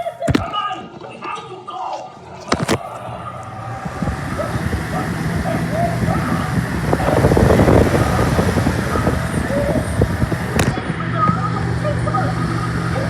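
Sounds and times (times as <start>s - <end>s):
box fan running: 1.8s - 13.0s.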